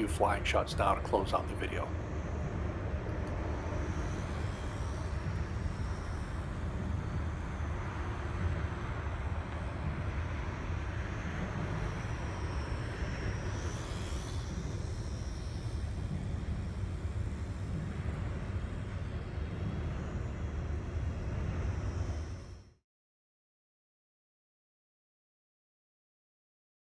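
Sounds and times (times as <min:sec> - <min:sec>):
low outdoor rumble: 0:00.0 - 0:22.8
model airplane motor whine: 0:00.0 - 0:22.8.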